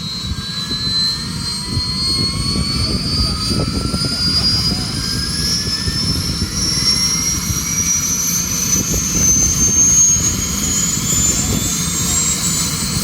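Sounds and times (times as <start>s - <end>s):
helicopter turbine engine whining: 0.0s - 13.0s.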